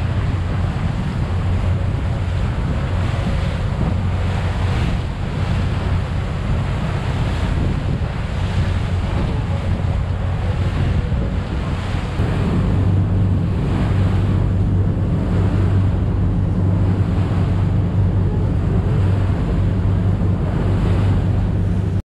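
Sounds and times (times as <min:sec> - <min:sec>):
boat wake rushing: 0:00.0 - 0:22.0
steady low rumble: 0:00.0 - 0:22.0
wind buffeting microphone: 0:00.0 - 0:22.0.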